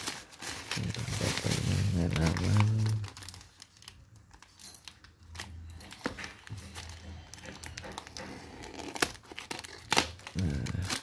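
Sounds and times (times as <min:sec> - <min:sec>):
cardboard box crinkling: 0:00.0 - 0:04.6, 0:06.3 - 0:11.0.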